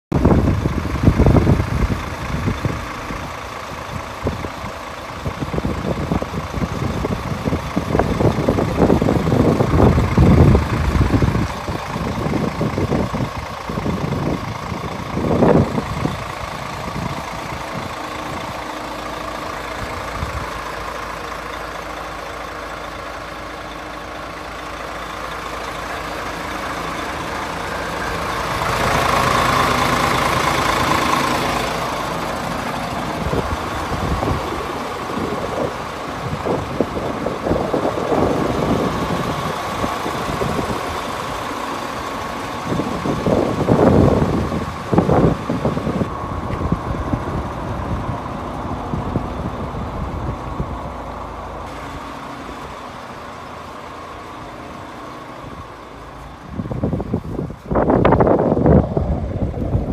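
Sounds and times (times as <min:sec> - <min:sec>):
truck diesel engine idling: 0:00.1 - 0:59.9.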